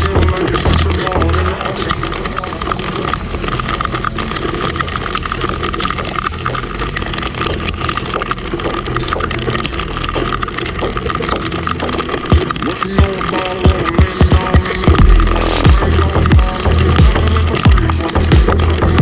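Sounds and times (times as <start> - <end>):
motorcycle engine rumble: 0.0 - 19.0
raindrops striking microphone: 0.0 - 19.0.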